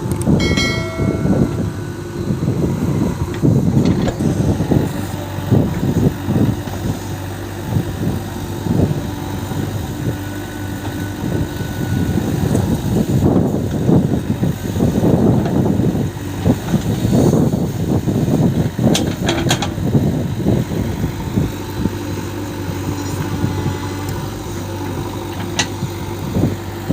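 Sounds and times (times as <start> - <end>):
backhoe diesel engine running: 0.0 - 26.9.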